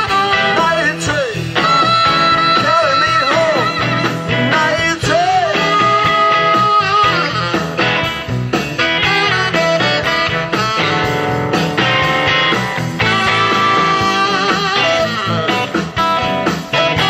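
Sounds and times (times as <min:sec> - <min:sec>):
bending guitar notes: 0:00.0 - 0:17.0
blues-rock band playing: 0:00.0 - 0:17.0.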